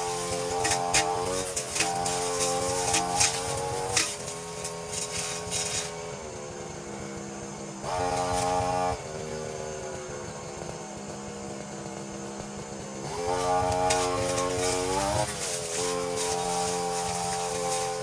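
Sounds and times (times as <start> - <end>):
brushcutter engine revving: 0.0 - 18.0.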